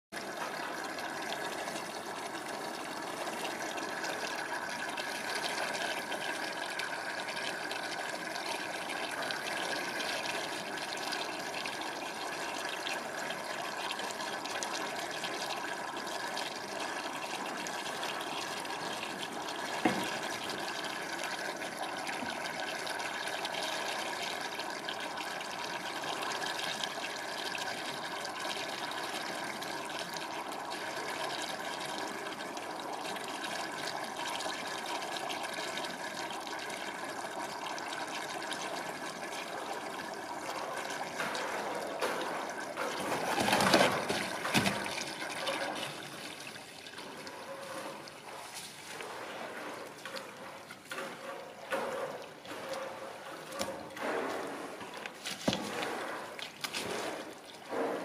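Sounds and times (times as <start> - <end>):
running water: 0.2 - 58.0.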